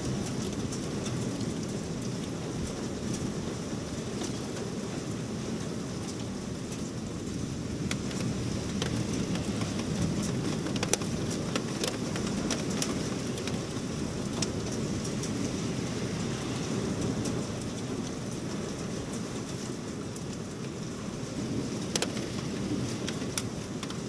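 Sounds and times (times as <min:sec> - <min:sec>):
heavy rain pouring: 0:00.0 - 0:24.0
raindrops ticking close by: 0:00.0 - 0:24.0.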